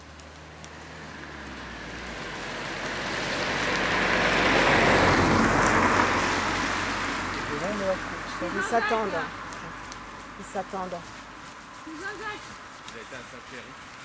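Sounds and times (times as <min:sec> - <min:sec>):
road vehicle passing by: 0:00.0 - 0:14.0.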